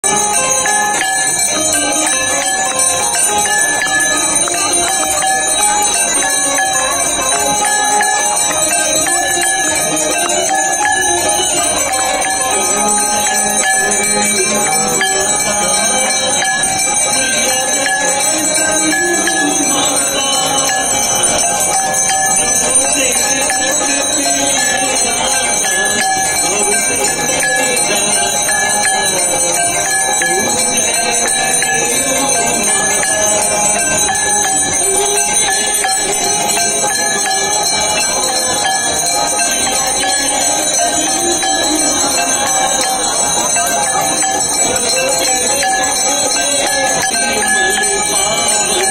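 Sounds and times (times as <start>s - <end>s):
bells ringing: 0.0s - 48.9s
devotional singing and music: 0.0s - 48.9s.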